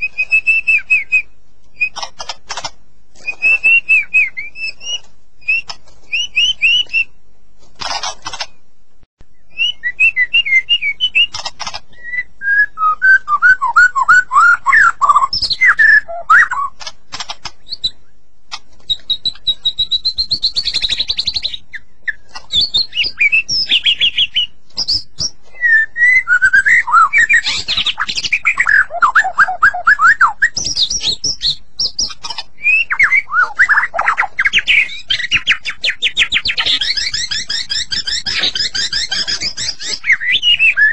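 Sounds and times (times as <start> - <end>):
bird singing whistled phrases: 0.0 - 2.1, 3.2 - 7.1, 9.3 - 16.8, 18.9 - 40.9.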